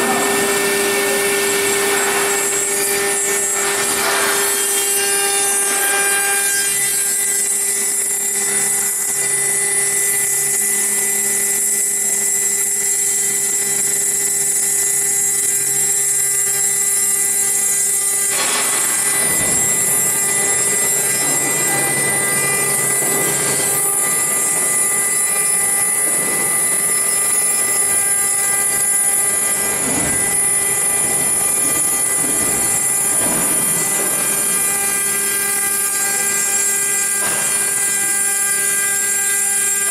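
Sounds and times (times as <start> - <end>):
cutter grinding stone: 0.0 - 39.9
router spindle whining: 0.0 - 39.9.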